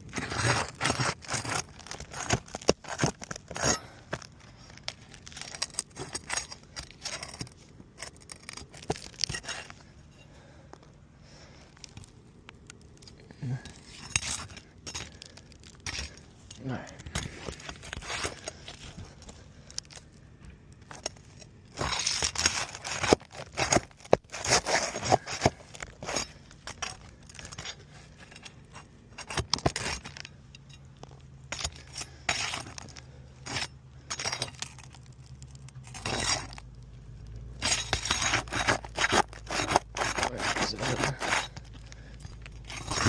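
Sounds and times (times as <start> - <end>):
hand tools scraping roof shingles: 0.0 - 10.4, 13.7 - 20.0, 20.8 - 30.4, 31.4 - 36.6, 37.6 - 43.0.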